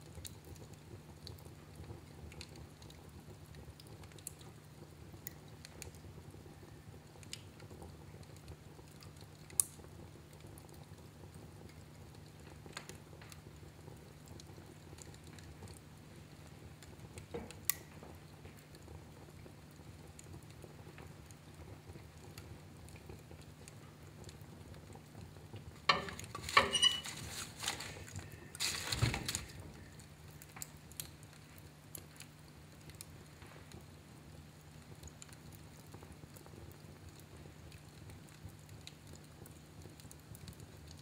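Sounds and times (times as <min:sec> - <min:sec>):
fireplace fire crackling and popping: 0:00.0 - 0:41.0.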